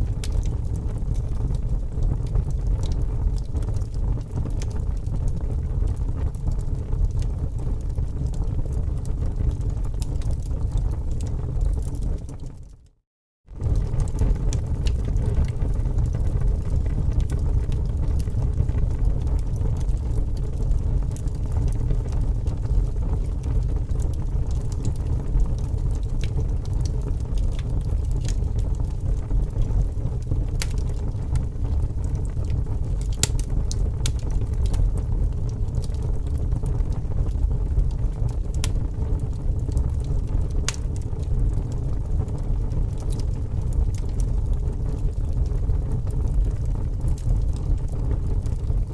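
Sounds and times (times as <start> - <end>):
wood fire crackling: 0.0 - 12.9, 13.5 - 48.9.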